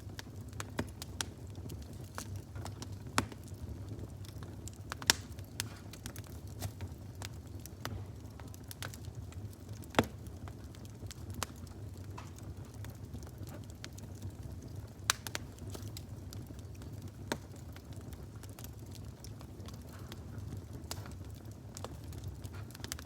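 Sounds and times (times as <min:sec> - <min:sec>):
fire crackling and rumbling: 0:00.0 - 0:23.0.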